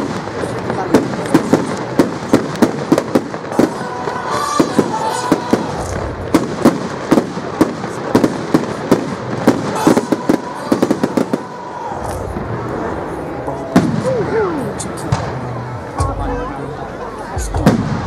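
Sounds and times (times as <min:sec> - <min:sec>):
fireworks bangs and cracks: 0:00.0 - 0:16.2, 0:17.4 - 0:18.0.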